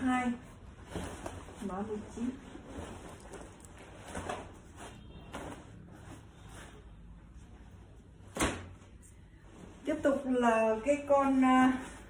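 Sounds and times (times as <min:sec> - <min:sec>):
fabric swishes and scrapes: 0:00.0 - 0:12.0
shirt rustling: 0:00.5 - 0:12.0.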